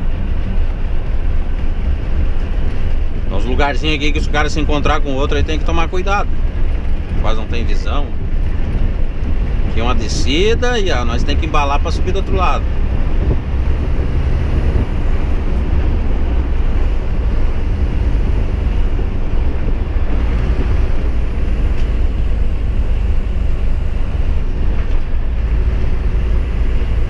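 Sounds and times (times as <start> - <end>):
truck engine and road rumble: 0.0 - 27.0.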